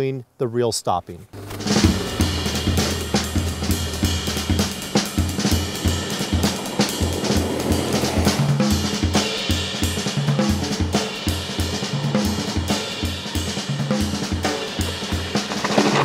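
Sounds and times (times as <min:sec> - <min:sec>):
drum kit beat: 0:01.4 - 0:16.0.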